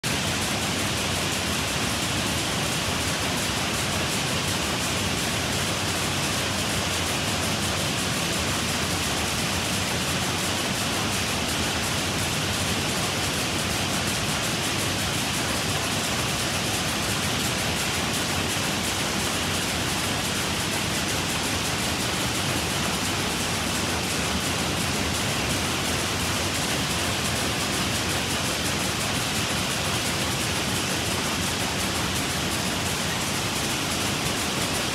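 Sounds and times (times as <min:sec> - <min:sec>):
power looms clattering: 0:00.0 - 0:34.9.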